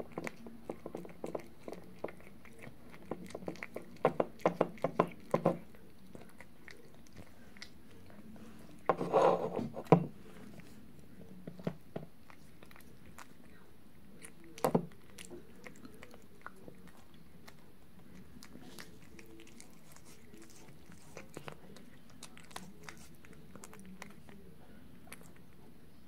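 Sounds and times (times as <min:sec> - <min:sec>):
cat chewing food: 0:00.0 - 0:26.0.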